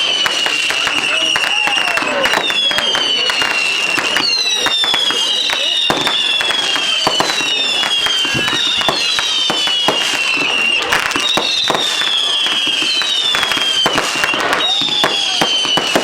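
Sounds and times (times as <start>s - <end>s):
firework bangs and cracks: 0.0s - 16.0s
whistling fireworks: 0.0s - 16.0s.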